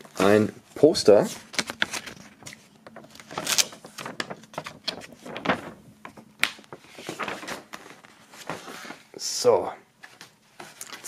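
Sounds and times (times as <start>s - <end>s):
paper rustling and crackling: 0.0s - 9.1s, 10.0s - 11.0s.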